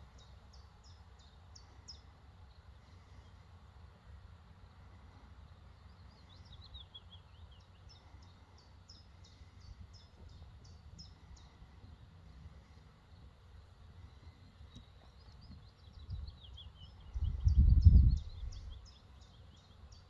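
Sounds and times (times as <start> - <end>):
faint birdsong: 0.0 - 20.0
low background rumble: 0.0 - 20.0.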